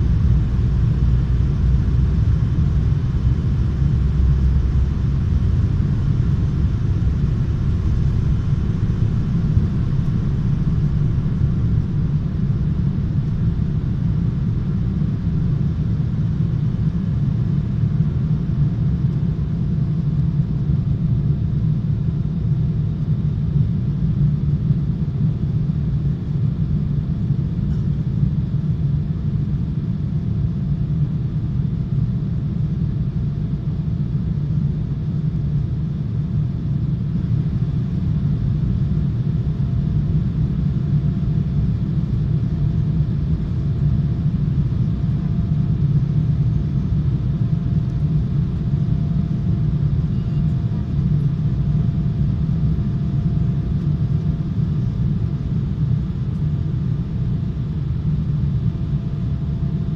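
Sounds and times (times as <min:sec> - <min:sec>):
airliner engine rumble: 0:00.0 - 0:59.9.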